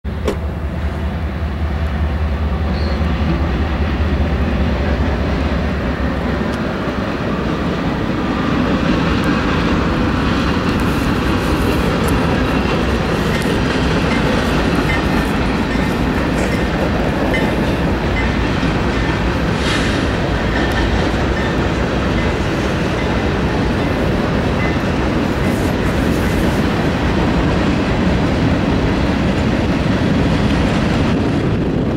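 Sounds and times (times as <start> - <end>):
diesel locomotive engine drone: 0.0 - 31.9
train wheels on rails: 0.1 - 31.9.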